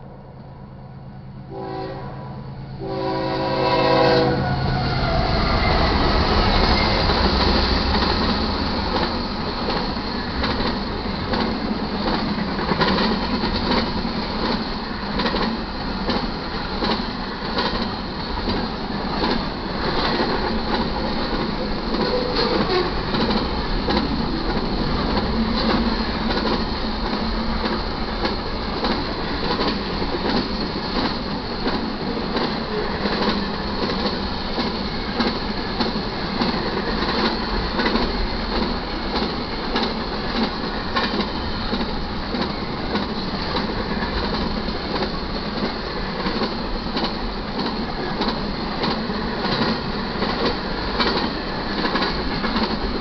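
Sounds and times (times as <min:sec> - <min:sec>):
freight train wheels rumbling: 0:01.2 - 0:53.0
rapid rail clicks: 0:07.0 - 0:53.0.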